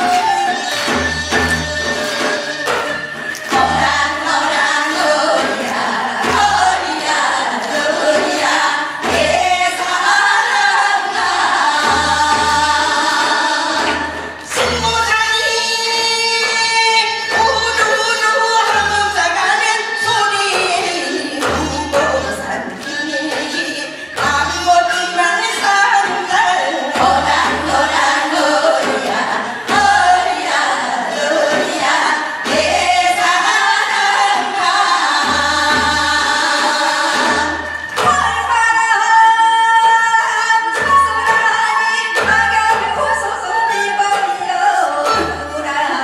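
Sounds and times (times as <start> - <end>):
steady drum beat: 0.0 - 39.2.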